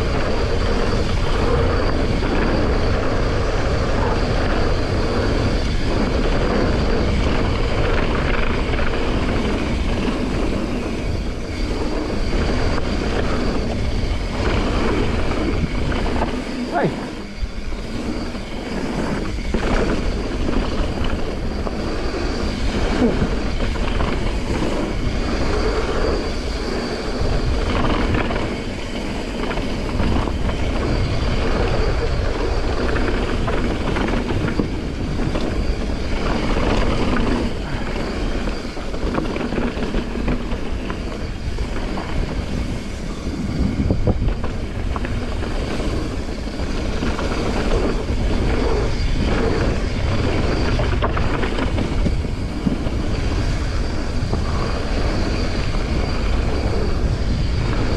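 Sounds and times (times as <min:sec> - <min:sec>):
bike clicking and rattling: 0:00.0 - 0:57.9
wind buffeting microphone: 0:00.0 - 0:57.9.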